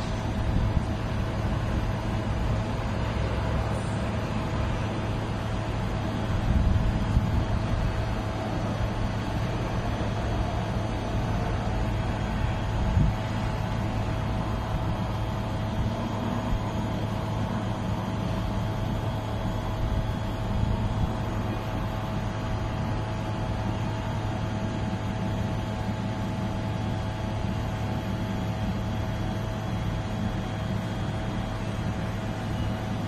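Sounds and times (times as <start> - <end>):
low city hum: 0.0 - 33.0.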